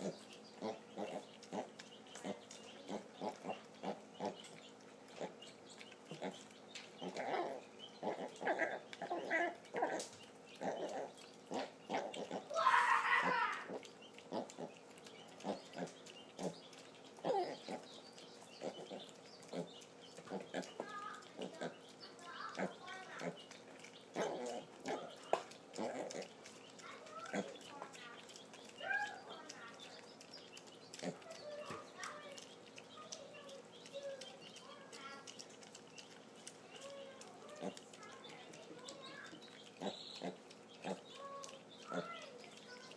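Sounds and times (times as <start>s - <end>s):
pigs grunting: 0.0s - 42.9s.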